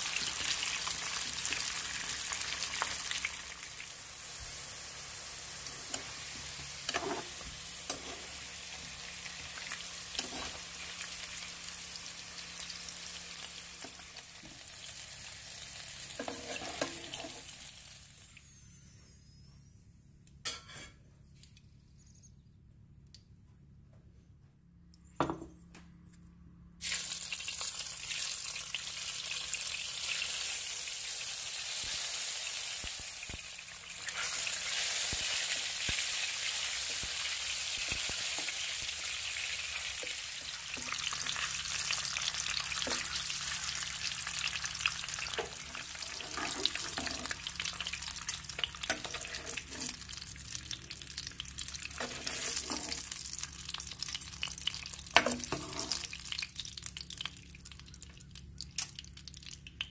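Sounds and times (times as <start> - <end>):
eggs sizzling in hot oil: 0.0 - 18.6, 26.8 - 59.9.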